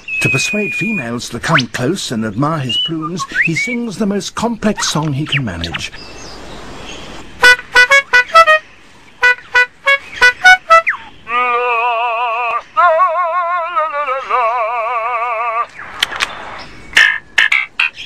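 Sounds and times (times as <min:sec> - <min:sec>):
lyrebird singing: 0:00.0 - 0:18.0.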